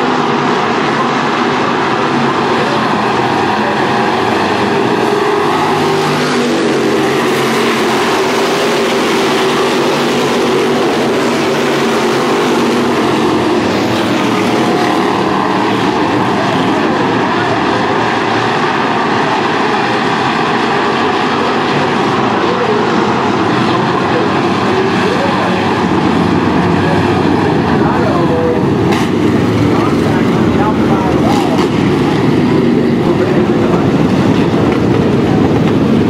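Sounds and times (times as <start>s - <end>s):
race car engines roaring: 0.0s - 36.0s.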